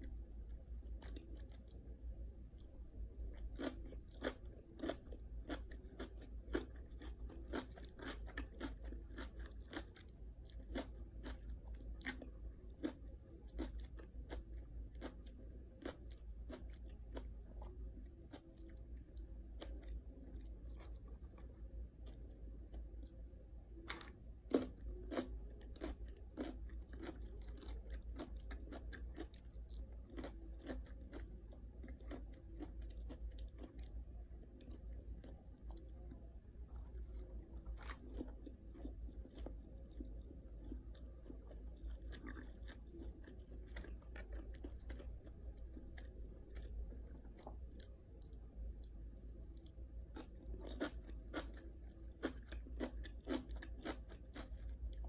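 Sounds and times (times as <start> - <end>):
person chewing crunchy food: 0.0 - 1.9, 2.6 - 23.2, 23.8 - 55.0.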